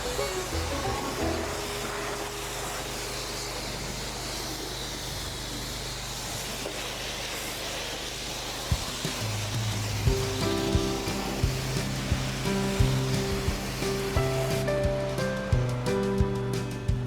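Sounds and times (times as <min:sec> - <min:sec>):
hiss of water spray: 0:00.0 - 0:17.0
pressure washer machine hum: 0:00.0 - 0:17.0.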